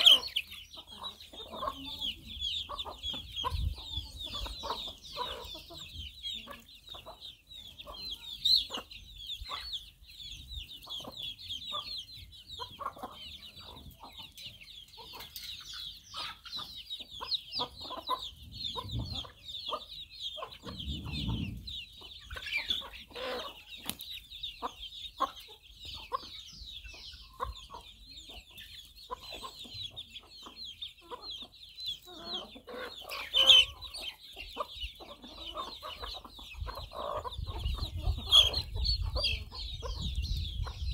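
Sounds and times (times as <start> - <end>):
chicks peeping: 0.0 - 40.9
hens clucking: 0.0 - 40.9.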